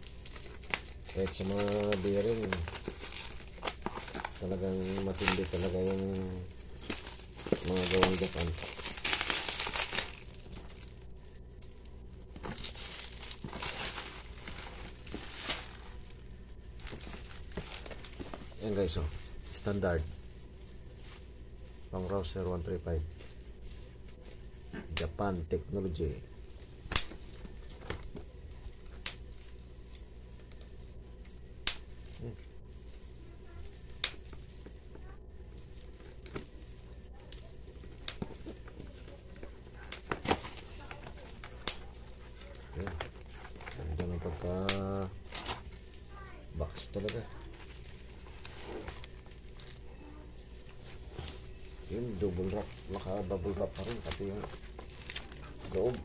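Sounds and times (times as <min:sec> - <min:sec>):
bubble wrap crinkling: 0:00.0 - 0:56.0
faint low hum: 0:00.0 - 0:56.0.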